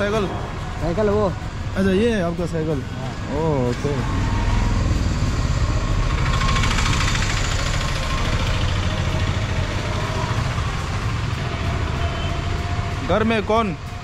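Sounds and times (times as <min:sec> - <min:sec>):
rushing hiss of passing traffic: 0:00.0 - 0:14.0
vehicle engine rumbling: 0:00.0 - 0:14.0.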